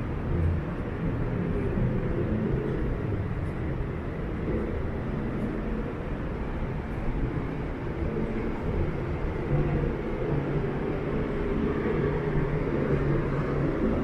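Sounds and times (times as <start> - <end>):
distant city traffic rumble: 0.0 - 14.0.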